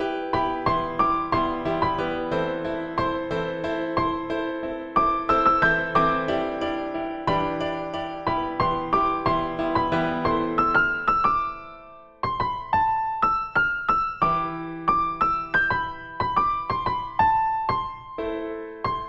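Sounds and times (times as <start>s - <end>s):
slow keyboard melody: 0.0s - 19.0s.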